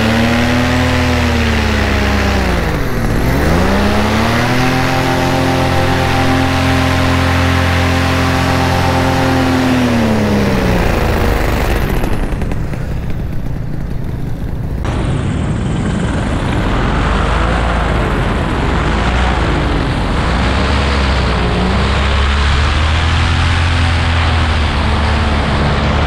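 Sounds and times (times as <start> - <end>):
loud wind rush: 0.0 - 26.0
paramotor engine and propeller: 0.0 - 26.0.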